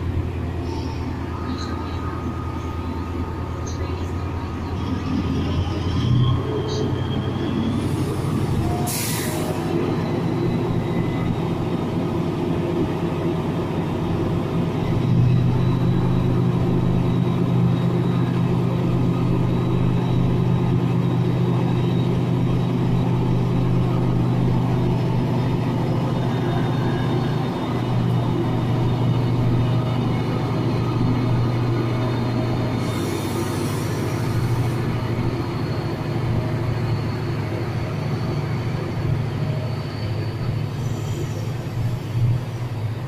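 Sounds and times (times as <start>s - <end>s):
diesel locomotive engine working: 0.0s - 43.0s.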